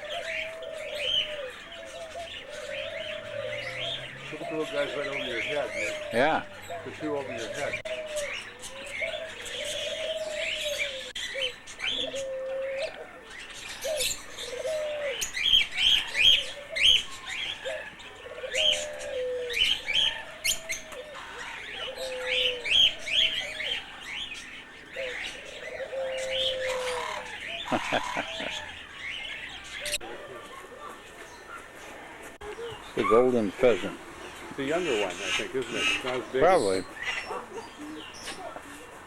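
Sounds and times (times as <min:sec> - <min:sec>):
doves cooing: 0:00.0 - 0:39.0
small birds chirping: 0:00.0 - 0:39.0.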